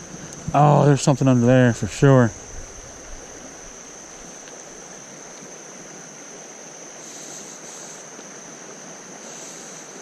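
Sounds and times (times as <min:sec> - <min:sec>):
creek water over rocks: 0:00.0 - 0:10.0
high insect buzz: 0:00.0 - 0:10.0.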